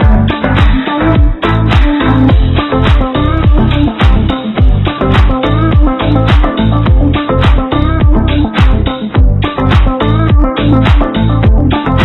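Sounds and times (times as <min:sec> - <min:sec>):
dance music with deep bass: 0:00.0 - 0:12.0.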